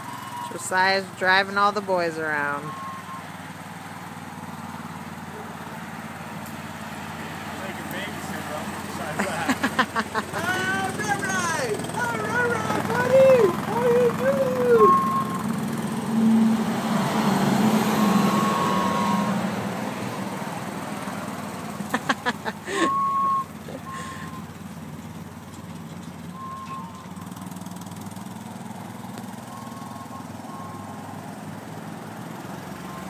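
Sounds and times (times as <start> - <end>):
riding lawn mower engine running: 0.0 - 33.0.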